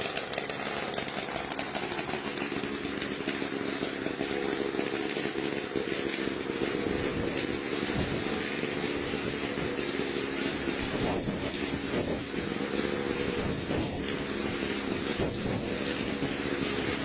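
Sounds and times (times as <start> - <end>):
helicopter engine running: 0.0 - 17.0.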